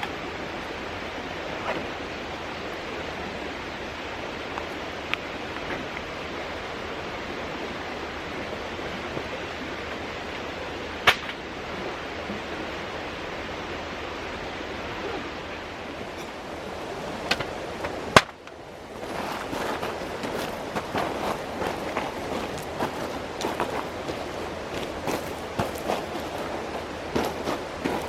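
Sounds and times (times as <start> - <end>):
mountain stream flowing: 0.0 - 28.0.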